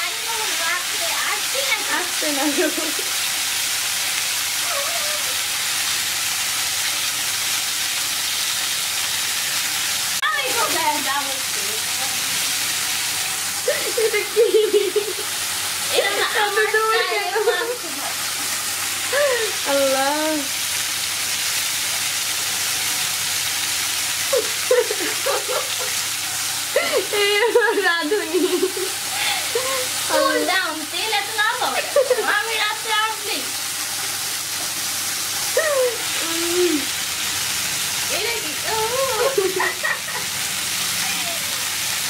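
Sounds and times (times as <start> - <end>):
meat sizzling in hot oil: 0.0 - 42.0.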